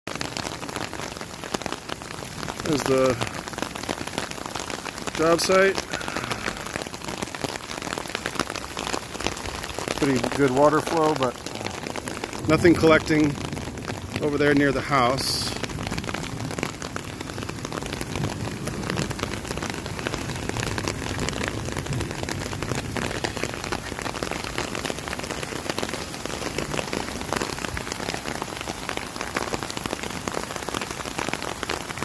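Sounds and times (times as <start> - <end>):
close raindrop hits: 0.1 - 32.0
steady rain falling: 0.1 - 32.0.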